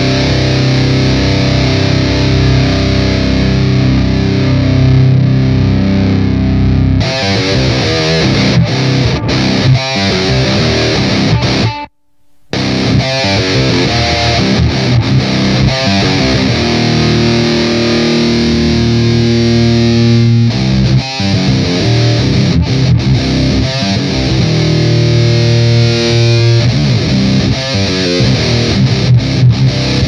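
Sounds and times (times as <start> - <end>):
distorted electric guitar riffing: 0.0 - 30.0.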